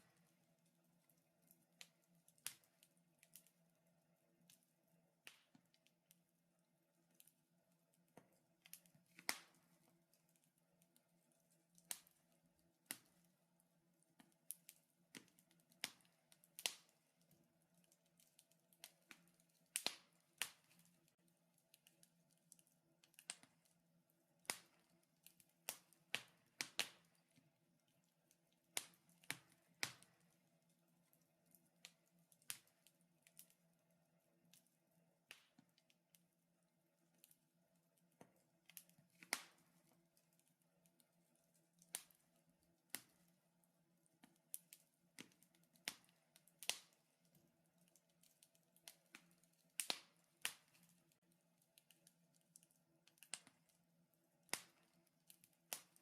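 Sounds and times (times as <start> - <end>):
wood fire crackling: 0.0 - 6.3, 6.9 - 36.3, 37.0 - 56.0.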